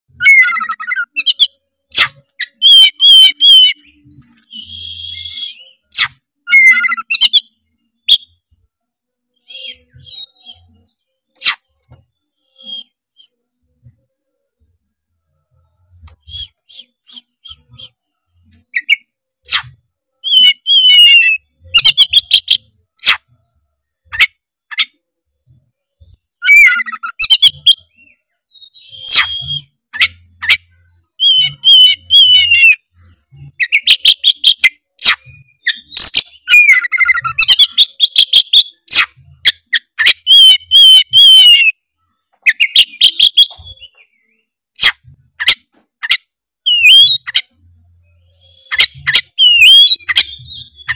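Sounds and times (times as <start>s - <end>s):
songbird singing: 0.1s - 50.9s.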